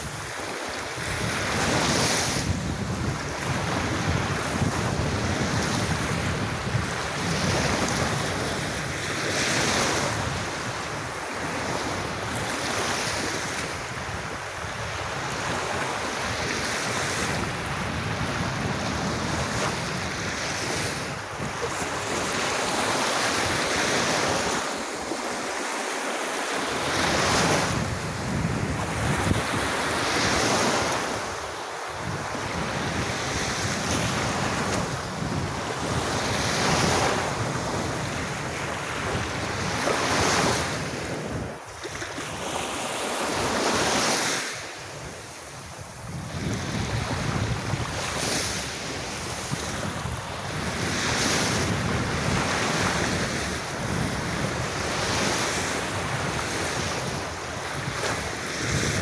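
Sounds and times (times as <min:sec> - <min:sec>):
wind buffeting microphone: 0:00.0 - 0:25.6, 0:26.6 - 0:42.6, 0:43.2 - 0:59.0
small waves breaking on shore: 0:00.0 - 0:59.0.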